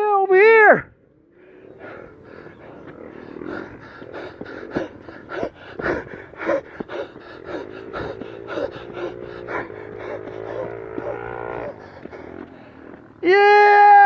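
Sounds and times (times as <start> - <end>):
heavy panting breaths: 1.0 - 13.2
footsteps crunching on dirt: 1.8 - 13.2.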